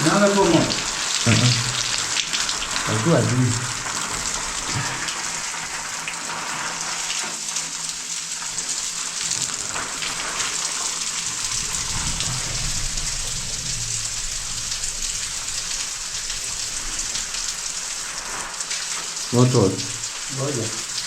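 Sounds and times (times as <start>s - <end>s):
water spraying from shower head: 0.0s - 21.0s.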